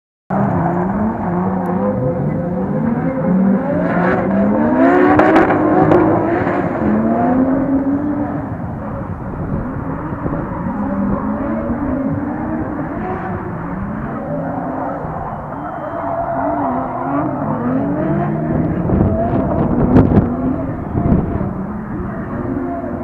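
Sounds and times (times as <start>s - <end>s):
car engines revving: 0.3s - 23.0s.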